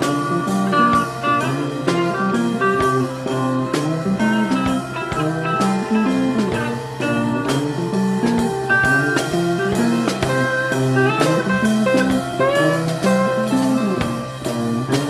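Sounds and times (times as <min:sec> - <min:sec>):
electric guitar gliding notes: 0:00.0 - 0:15.0
rock band playing instrumental: 0:00.0 - 0:15.0.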